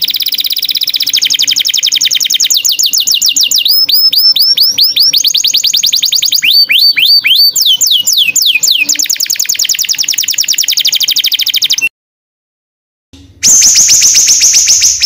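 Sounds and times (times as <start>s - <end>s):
small songbird singing: 0.0s - 11.9s, 13.4s - 15.0s.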